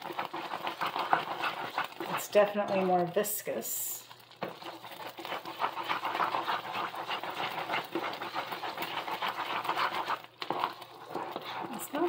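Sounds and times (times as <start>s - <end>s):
thick mixture bubbling and crackling: 0.0s - 12.0s
wooden spoon stirring pot: 0.0s - 12.0s.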